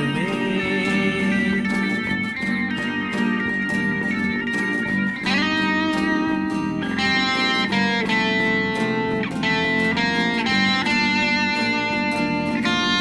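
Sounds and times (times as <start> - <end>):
electric guitar lead melody: 0.0 - 13.0
steady pop beat: 0.0 - 13.0.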